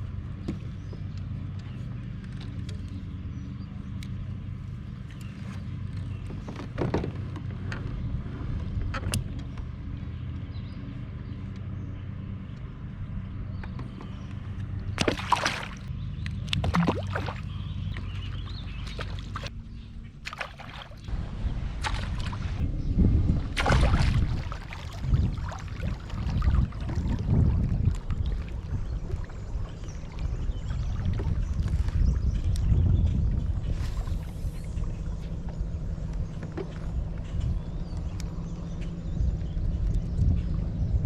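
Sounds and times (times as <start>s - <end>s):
water sloshing around kayak: 0.0s - 10.6s, 12.4s - 41.0s
steady low hum: 0.0s - 41.0s.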